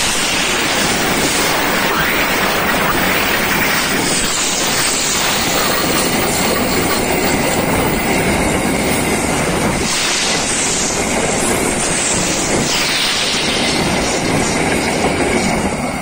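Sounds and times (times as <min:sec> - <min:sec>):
freight train wheels clattering on rails: 0:00.0 - 0:16.0.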